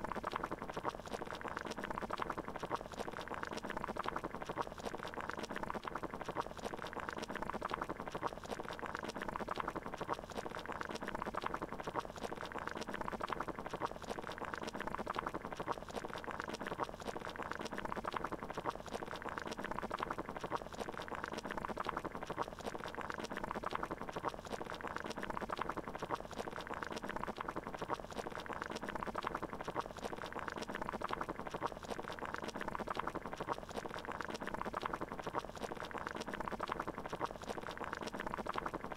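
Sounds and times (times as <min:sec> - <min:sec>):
water boiling: 0:00.0 - 0:38.9.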